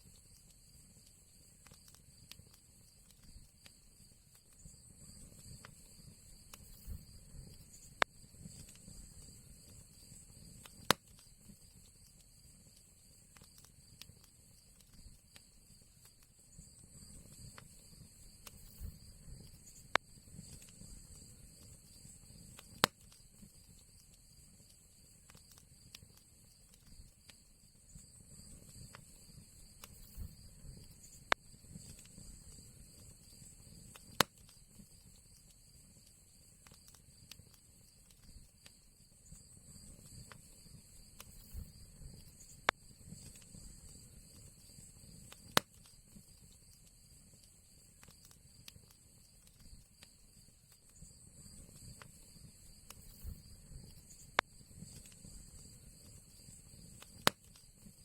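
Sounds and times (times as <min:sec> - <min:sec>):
fire popping: 0:00.0 - 0:58.0
low rumble of burning fire: 0:00.0 - 0:58.0
wood fire crackling: 0:00.0 - 0:58.0.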